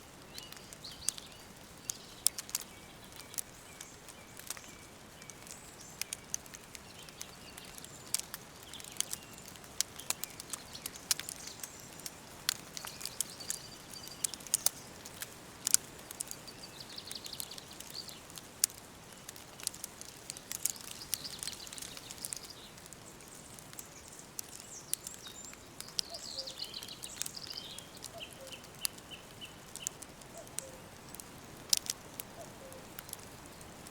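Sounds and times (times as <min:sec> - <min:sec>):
small birds chirping: 0:00.0 - 0:33.9
soft steady hiss: 0:00.0 - 0:33.9
wood fire crackling and popping: 0:00.0 - 0:33.9.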